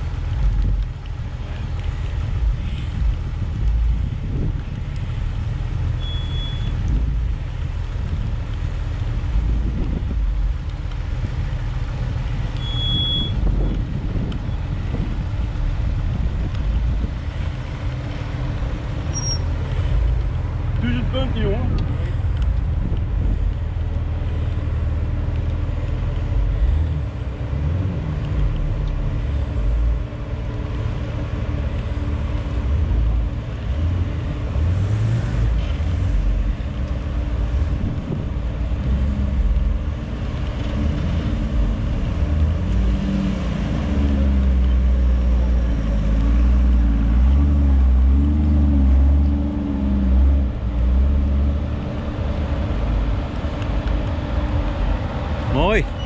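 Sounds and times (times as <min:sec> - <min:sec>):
car engine revving at low revs: 0:00.0 - 0:56.0.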